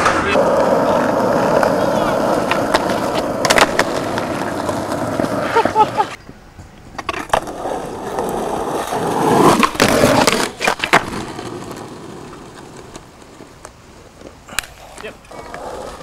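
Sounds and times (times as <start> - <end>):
skateboard clacks: 0.0 - 16.0
skateboard wheels rolling: 0.0 - 16.0.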